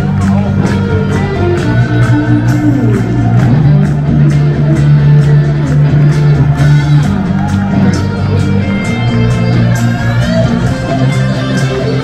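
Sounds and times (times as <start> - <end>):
bass guitar: 0.0 - 12.0
rock band music: 0.0 - 12.0
strummed electric guitar: 0.0 - 12.0.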